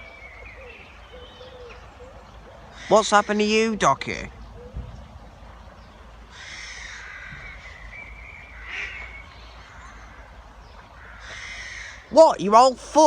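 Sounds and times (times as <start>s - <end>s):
ducks quacking: 0.8s - 12.4s.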